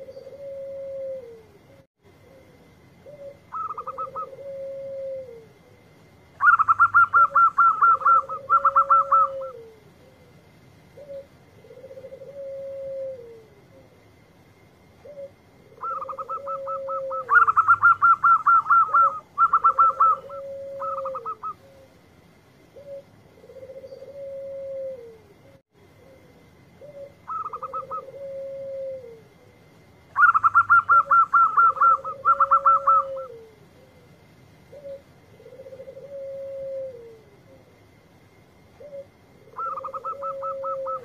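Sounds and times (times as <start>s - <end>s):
dove trilling and cooing: 0.0s - 14.2s, 14.8s - 38.0s, 38.6s - 41.0s.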